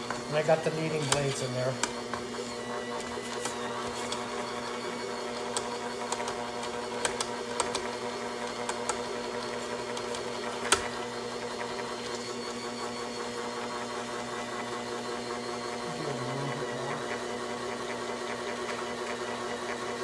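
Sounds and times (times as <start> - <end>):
stand mixer motor running: 0.0 - 20.0.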